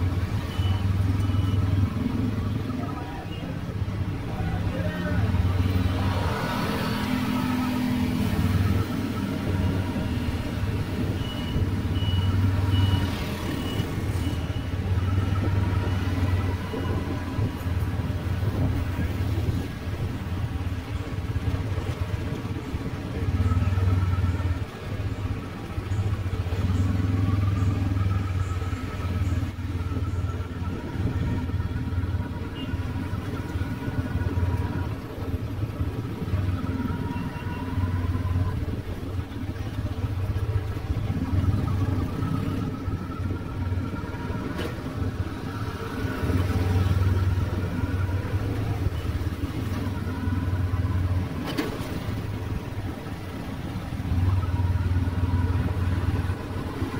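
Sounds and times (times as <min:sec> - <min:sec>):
street traffic: 0:00.0 - 0:56.9.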